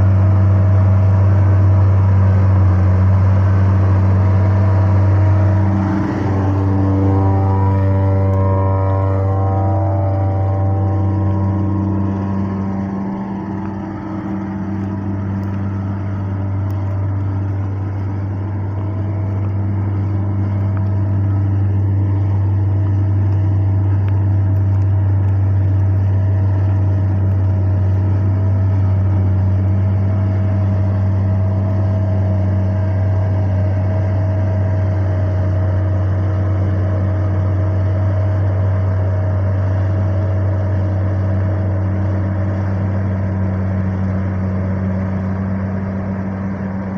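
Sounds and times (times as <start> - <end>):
combine harvester engine drone: 0.0 - 46.9
high whine: 0.0 - 46.9.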